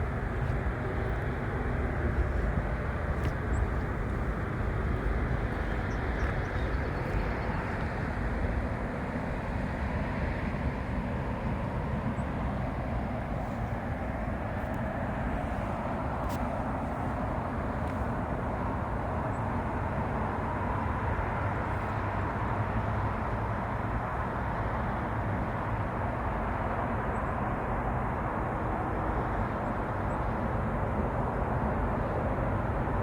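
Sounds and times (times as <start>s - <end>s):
outdoor background rumble and hiss: 0.0s - 33.0s.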